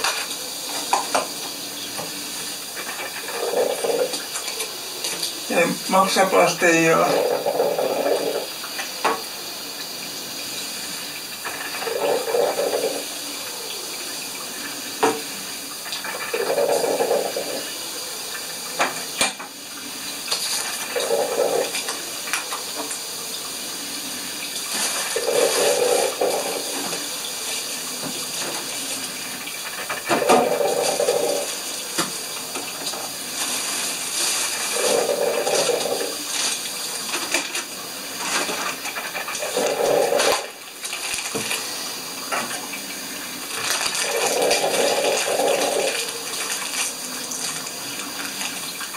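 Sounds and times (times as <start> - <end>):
coffee maker gurgling: 0.0 - 48.9.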